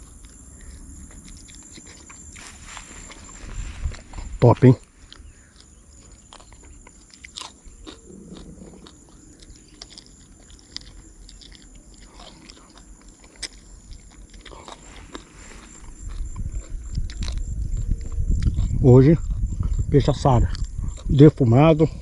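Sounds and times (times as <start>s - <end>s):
faint clicks and crunches: 0.0s - 18.7s
person chewing food: 0.0s - 21.1s.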